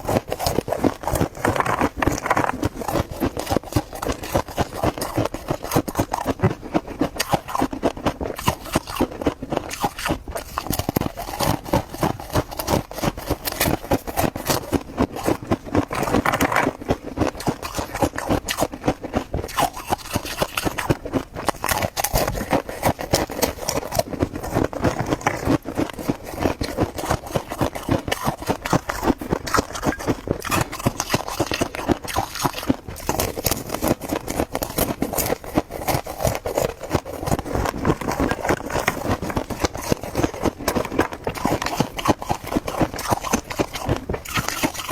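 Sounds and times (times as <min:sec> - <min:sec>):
chewing crunchy frost: 0:00.0 - 0:44.9.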